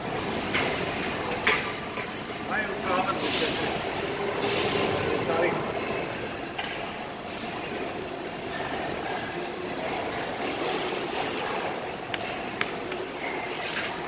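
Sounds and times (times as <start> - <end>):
packaging line and conveyors running: 0.0 - 14.0.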